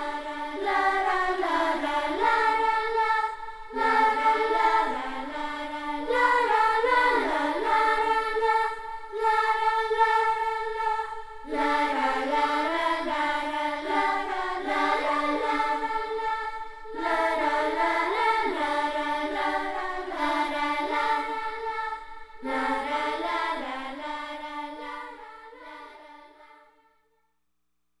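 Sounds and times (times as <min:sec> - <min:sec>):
choir singing long notes: 0:00.0 - 0:27.1.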